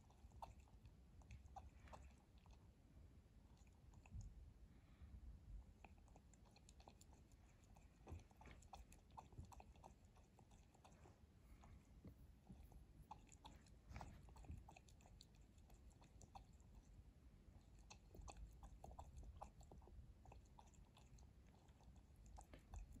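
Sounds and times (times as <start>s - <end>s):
cat lapping water: 0.0s - 2.8s, 3.4s - 4.4s, 5.6s - 23.0s.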